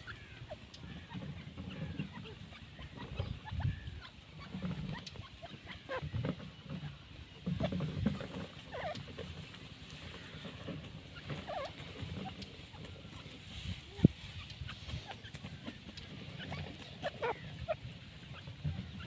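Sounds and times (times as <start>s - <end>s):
soft squeaky bird chirps: 0.0s - 6.2s, 7.6s - 9.1s, 11.1s - 19.0s.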